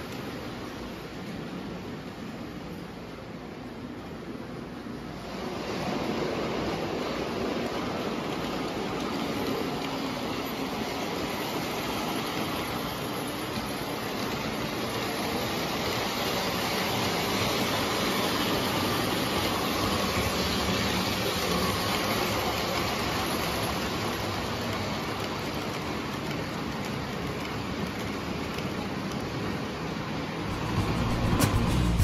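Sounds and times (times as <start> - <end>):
model train rumbling on rails: 0.0 - 32.0.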